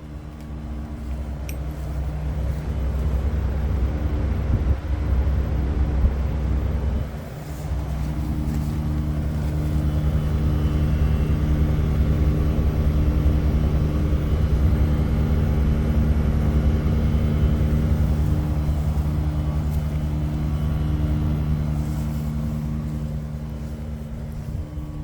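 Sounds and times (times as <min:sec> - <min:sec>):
heat pump buzzing hum: 0:00.0 - 0:25.0.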